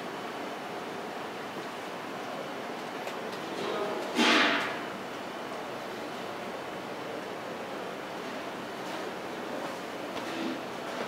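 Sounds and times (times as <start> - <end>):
room noise hiss: 0.0 - 11.0.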